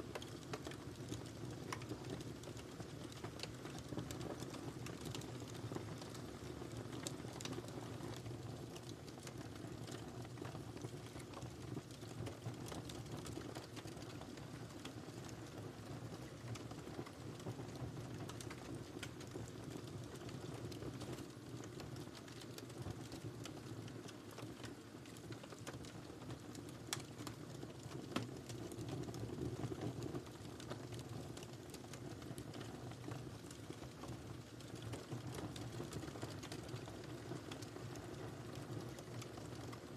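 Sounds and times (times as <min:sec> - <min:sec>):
wood fire crackling and popping: 0:00.0 - 0:39.9
low rumble of flames: 0:00.1 - 0:39.9.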